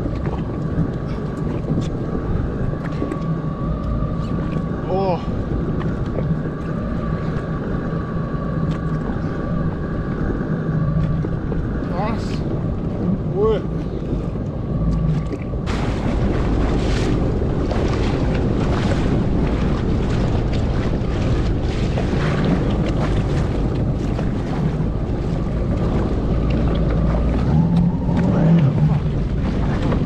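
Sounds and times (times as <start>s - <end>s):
jet ski engine hum: 0.0s - 30.0s
water splashing against hull: 0.0s - 30.0s
wind buffeting microphone: 0.0s - 30.0s.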